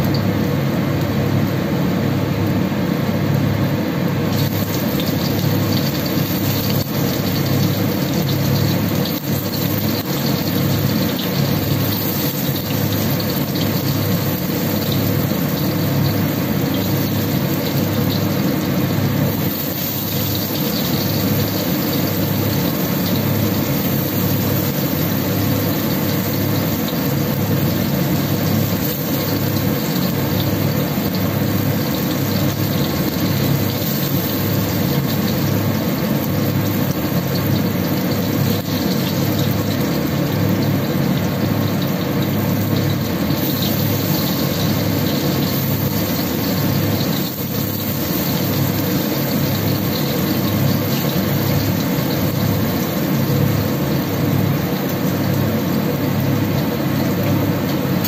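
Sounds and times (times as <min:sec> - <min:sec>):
constant low hum: 0:00.0 - 0:58.0
food deep-frying in oil: 0:00.0 - 0:58.0.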